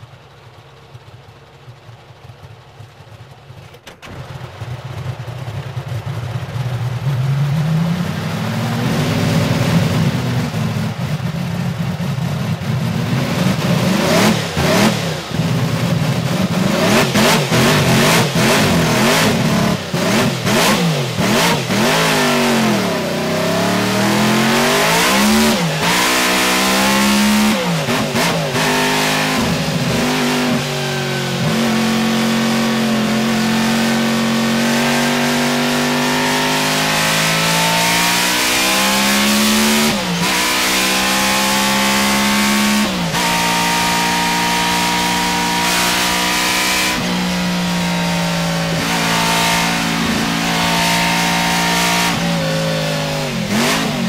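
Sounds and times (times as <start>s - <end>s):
racing car engine revving: 6.6s - 54.0s.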